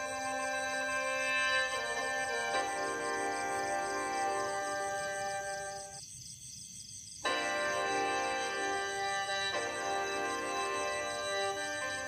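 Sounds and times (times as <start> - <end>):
sustained keyboard chords: 0.0 - 5.9, 7.2 - 12.0.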